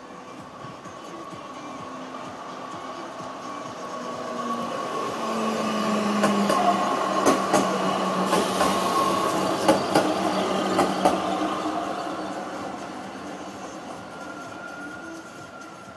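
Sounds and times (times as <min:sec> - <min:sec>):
tram passing on rails: 0:00.0 - 0:15.9.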